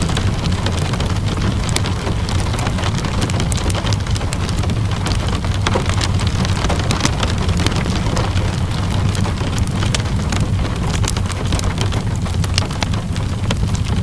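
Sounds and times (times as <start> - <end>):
steady rainfall: 0.0 - 14.0
wood fire crackling: 0.0 - 14.0.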